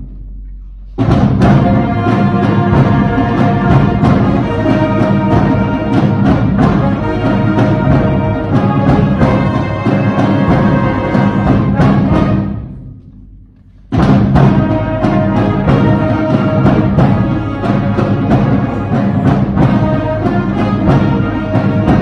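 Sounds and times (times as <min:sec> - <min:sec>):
drum strokes: 0:00.0 - 0:22.0
symphonic band playing: 0:00.9 - 0:22.0.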